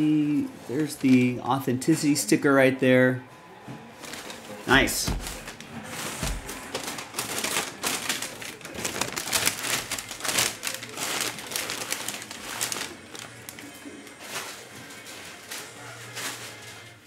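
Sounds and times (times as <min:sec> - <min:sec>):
paper and plastic bag rustling: 0:00.2 - 0:02.3, 0:03.8 - 0:17.0.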